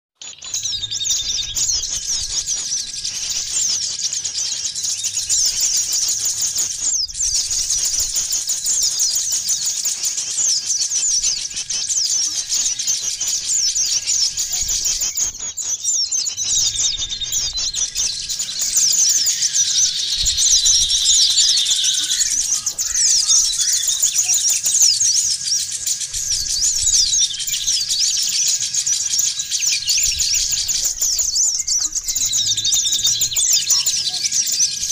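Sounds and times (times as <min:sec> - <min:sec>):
many small birds chirping: 0:00.2 - 0:34.9.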